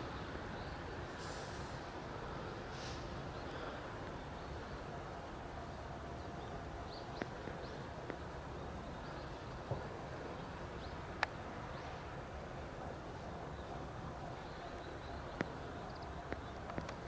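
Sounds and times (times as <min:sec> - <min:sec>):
small birds chirping: 0:00.0 - 0:12.1, 0:12.9 - 0:17.0
outdoor background noise: 0:00.0 - 0:17.0.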